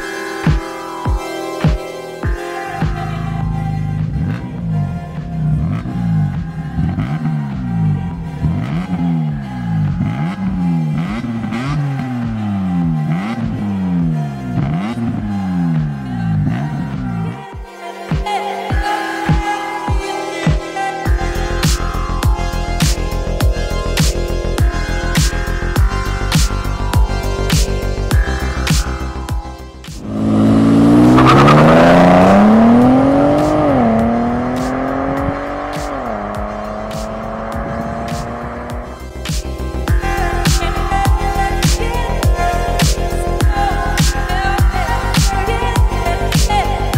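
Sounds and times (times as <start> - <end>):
background music: 0.0 - 46.9
car engine revving: 2.7 - 17.4, 21.2 - 46.9.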